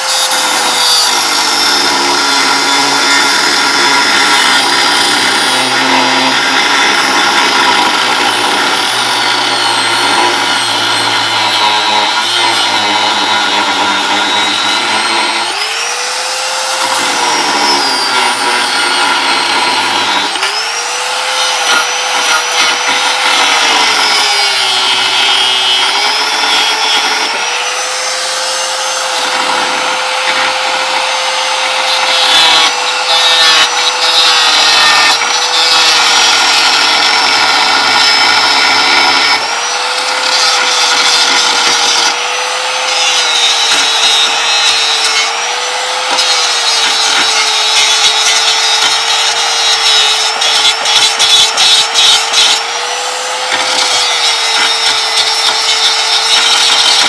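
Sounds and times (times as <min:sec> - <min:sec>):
angle grinder motor: 0:00.0 - 0:57.0
grinding disc rasping on steel: 0:00.0 - 0:57.0.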